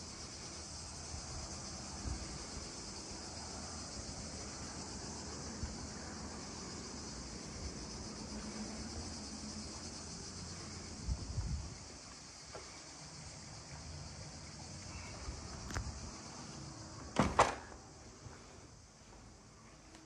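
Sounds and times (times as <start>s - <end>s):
cicadas chorus: 0.0s - 20.0s.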